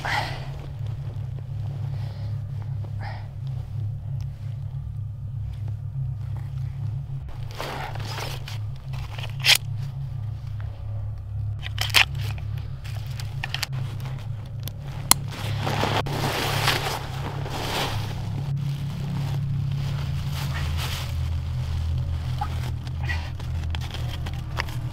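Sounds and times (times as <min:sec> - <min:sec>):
clothing and gear rustling: 0:00.0 - 0:24.9
low rumble: 0:00.0 - 0:24.9.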